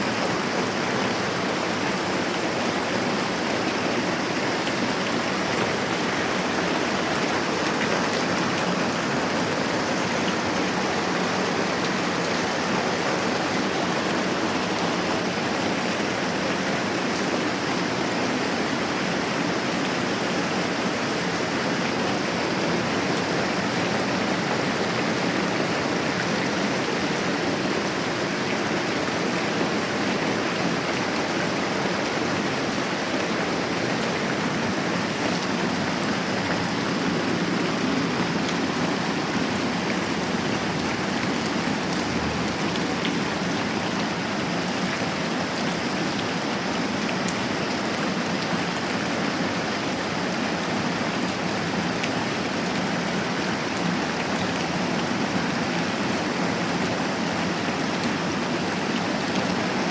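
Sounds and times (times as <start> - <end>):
rain falling: 0.1 - 59.9.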